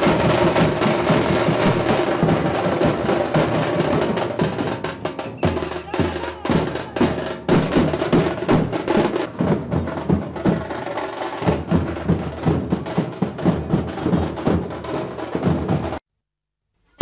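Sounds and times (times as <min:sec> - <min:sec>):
music with fast drum beat: 0:00.0 - 0:16.0.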